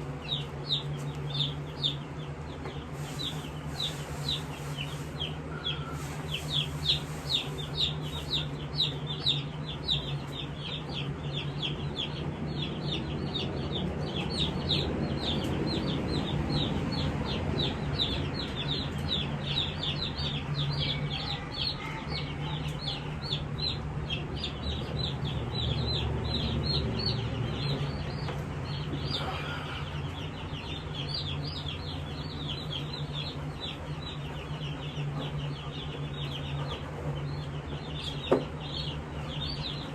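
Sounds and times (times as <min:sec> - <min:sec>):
chicks peeping: 0:00.0 - 0:39.9
steady low hum: 0:00.0 - 0:39.9.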